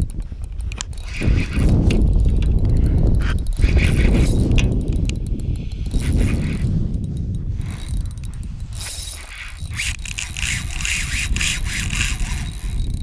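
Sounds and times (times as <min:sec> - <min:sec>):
fishing reel ratcheting clicks: 0:00.0 - 0:13.0.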